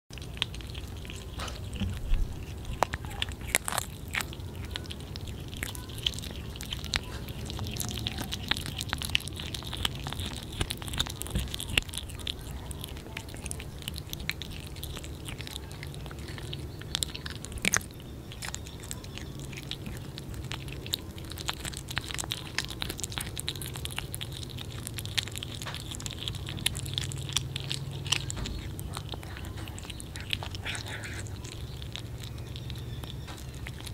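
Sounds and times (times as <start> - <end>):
kittens crunching fish: 0.1 - 33.9.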